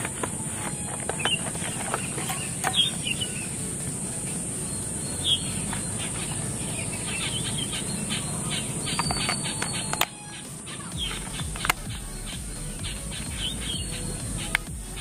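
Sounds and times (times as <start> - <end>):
birds chirping: 0.0 - 15.0
high-pitched hiss: 0.0 - 15.0.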